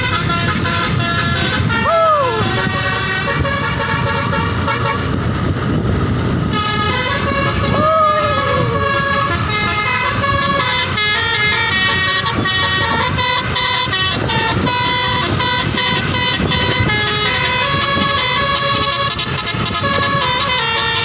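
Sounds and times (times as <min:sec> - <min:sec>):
multi-tone air horn melody: 0:00.0 - 0:05.2, 0:06.5 - 0:21.0
bus engine rumbling: 0:00.0 - 0:21.0
traffic rumbling: 0:00.0 - 0:21.0.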